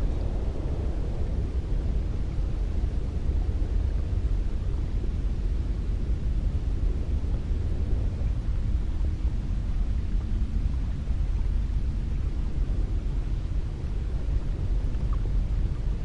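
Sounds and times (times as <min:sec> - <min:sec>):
wind blowing in low rumble: 0:00.0 - 0:16.0.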